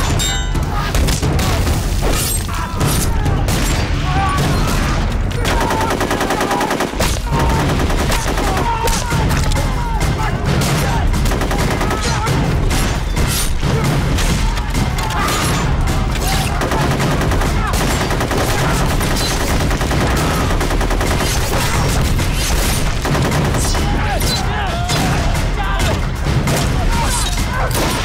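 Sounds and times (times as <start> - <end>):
rifle and machine-gun fire: 0.8 - 28.0
men shouting: 2.4 - 22.3, 23.1 - 28.0.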